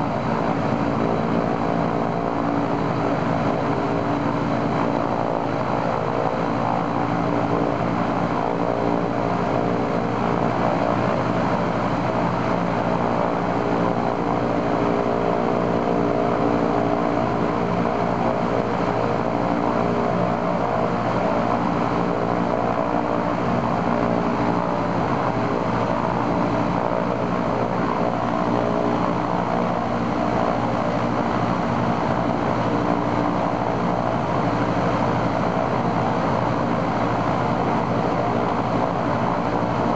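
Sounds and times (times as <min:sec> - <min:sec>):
radial engine and propeller running: 0:00.0 - 0:39.9.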